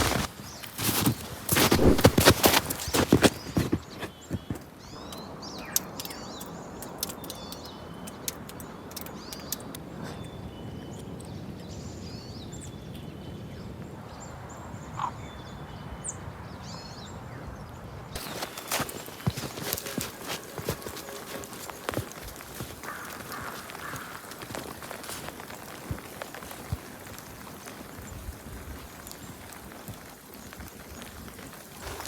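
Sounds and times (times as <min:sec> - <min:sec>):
small birds chirping: 0:00.0 - 0:17.2, 0:18.1 - 0:32.0.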